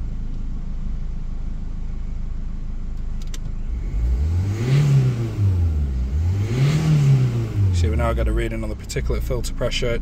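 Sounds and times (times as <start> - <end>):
diesel engine idling and revving: 0.0 - 10.0.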